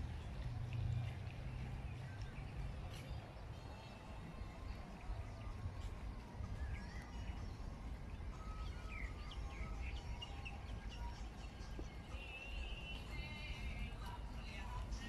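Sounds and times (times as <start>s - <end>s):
low outdoor rumble: 0.0s - 15.0s
birds chirping: 0.2s - 15.0s.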